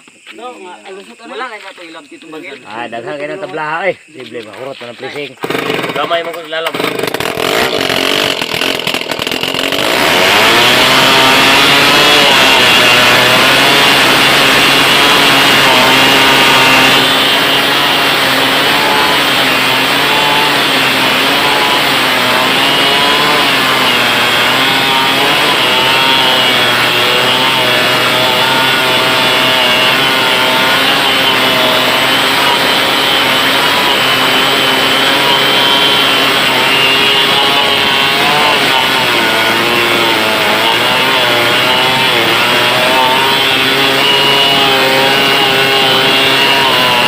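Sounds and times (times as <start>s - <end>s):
chainsaw cutting log: 5.1s - 47.0s.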